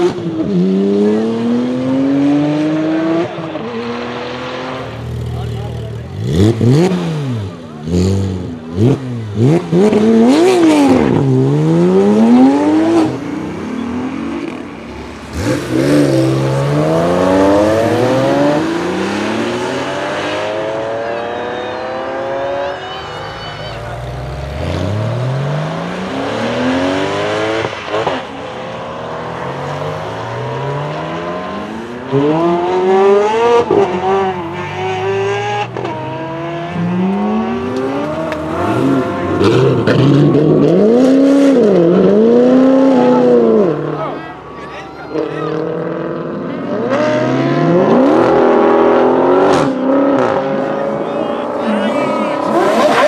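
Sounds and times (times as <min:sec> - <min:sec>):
sports cars accelerating hard: 0:00.0 - 0:53.0.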